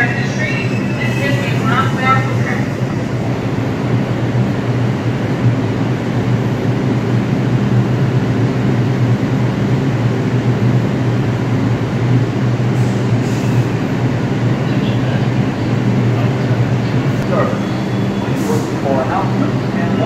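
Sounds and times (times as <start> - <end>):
subway train humming: 0.0 - 20.0.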